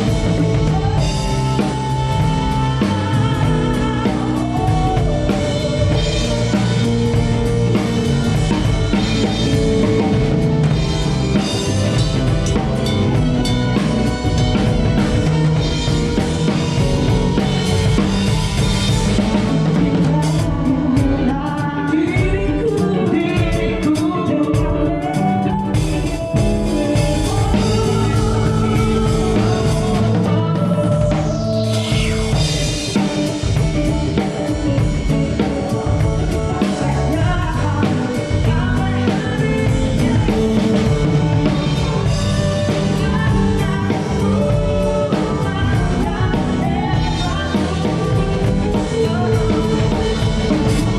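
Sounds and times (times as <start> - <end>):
bass guitar: 0.0 - 50.9
drum kit: 0.0 - 50.9
electric guitar: 0.0 - 50.9
person singing: 0.0 - 50.9.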